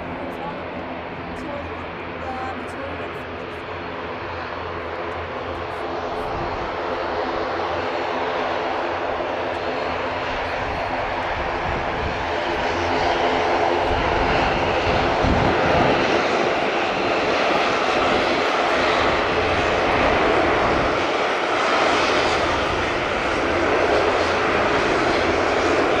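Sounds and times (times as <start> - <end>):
propeller hum: 0.0 - 26.0
turboprop engines droning: 0.0 - 26.0.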